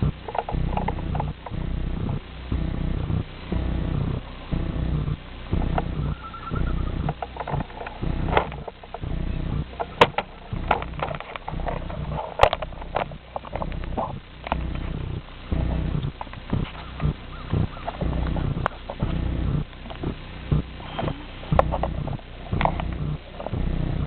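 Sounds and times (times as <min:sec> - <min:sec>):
wheels clicking on track: 0:00.0 - 0:24.0.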